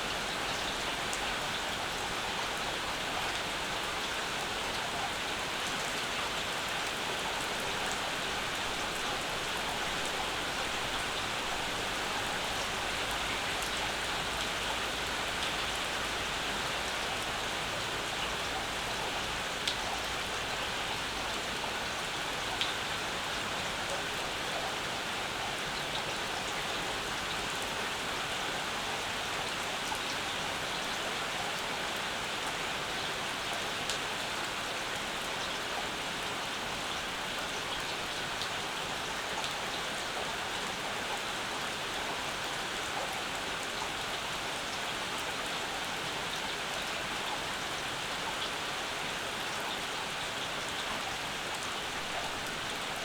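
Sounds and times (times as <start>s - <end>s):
rain drops pattering on surfaces: 0.0s - 53.0s.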